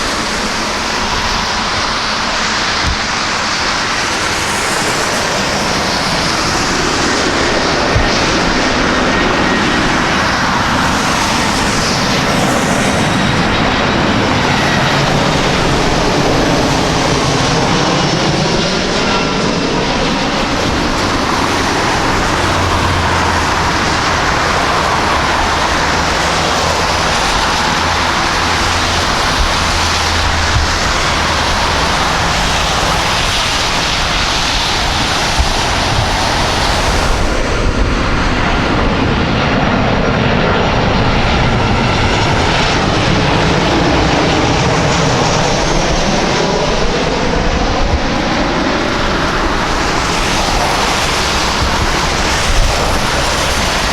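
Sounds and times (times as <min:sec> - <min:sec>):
airliner engines running: 0:00.0 - 0:53.9.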